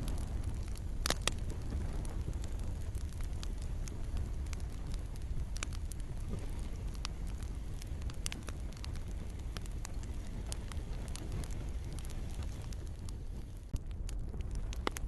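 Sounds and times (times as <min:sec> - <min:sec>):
campfire crackling: 0:00.0 - 0:15.0
fire rumbling: 0:00.0 - 0:15.0.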